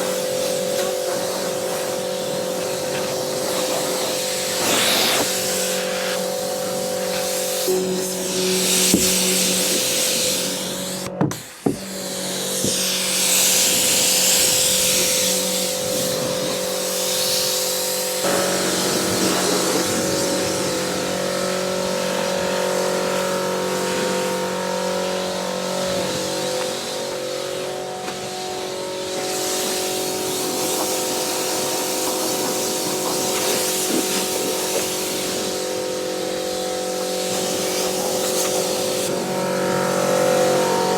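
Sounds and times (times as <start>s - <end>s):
pressure washer spray hissing: 0.0s - 40.9s.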